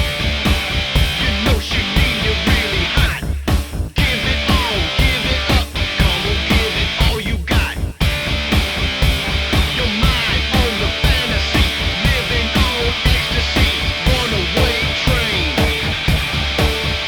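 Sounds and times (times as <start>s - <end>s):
distorted electric guitar: 0.0s - 17.0s
drum beat: 0.0s - 17.0s.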